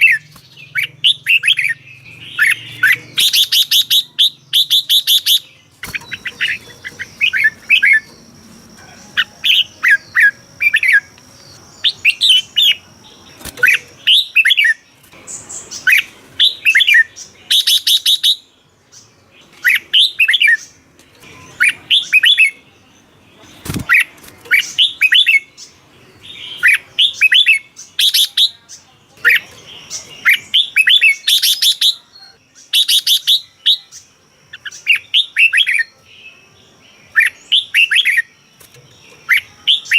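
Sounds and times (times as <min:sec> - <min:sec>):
bird song whistled notes: 0:00.0 - 0:39.9.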